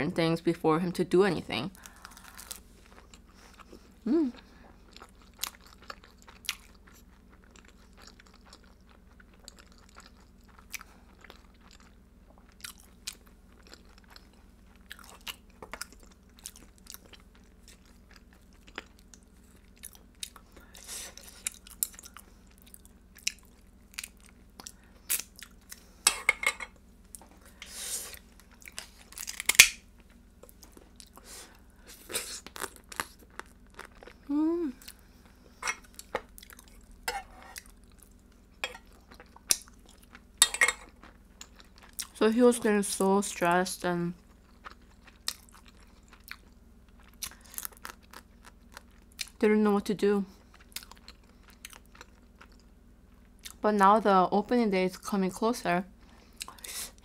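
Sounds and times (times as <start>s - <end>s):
chewing and crunching crab: 1.8s - 26.0s, 26.6s - 42.2s, 44.2s - 49.4s, 50.3s - 53.6s.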